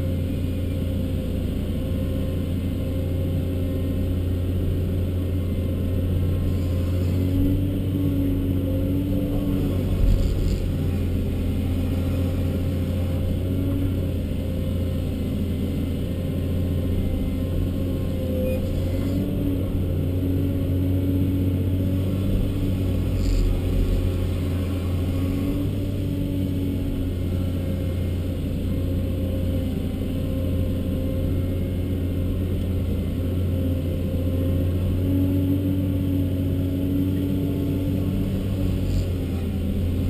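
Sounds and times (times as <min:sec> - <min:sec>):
excavator diesel engine droning: 0:00.0 - 0:40.0.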